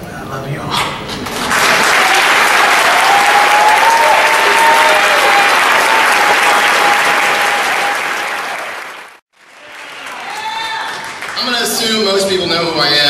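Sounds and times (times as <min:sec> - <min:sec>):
audience applauding: 0:01.2 - 0:12.6.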